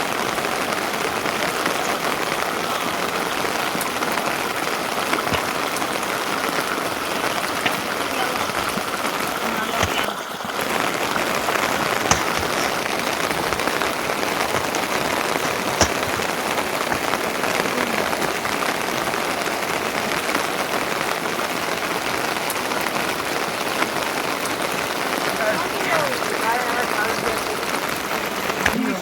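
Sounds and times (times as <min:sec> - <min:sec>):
sharp raindrop hits: 0:00.0 - 0:29.0
steady rain falling: 0:00.0 - 0:29.0.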